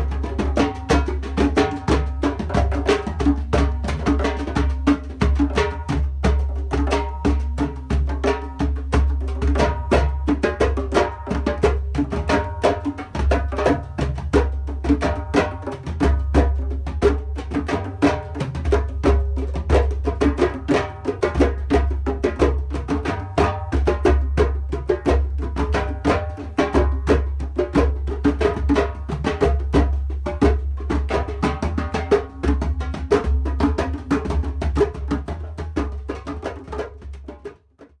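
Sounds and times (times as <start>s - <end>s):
hand drum strikes: 0.0s - 37.9s.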